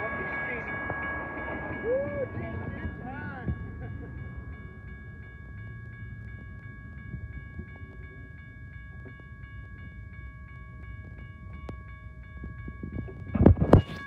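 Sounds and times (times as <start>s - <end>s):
crossing bell ringing: 0.0s - 14.0s
train rumble: 0.0s - 14.0s.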